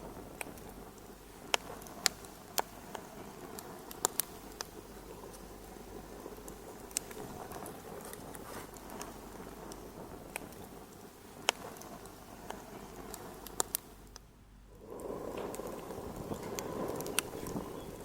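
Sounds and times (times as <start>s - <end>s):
fire popping: 0.0s - 18.0s
wood fire crackling: 0.0s - 18.0s.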